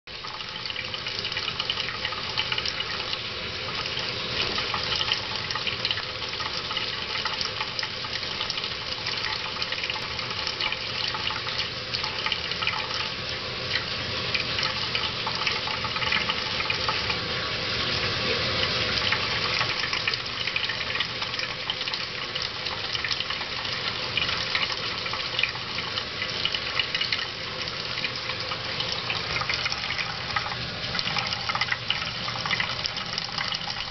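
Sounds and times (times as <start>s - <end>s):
tap water running into sink: 0.1s - 33.9s.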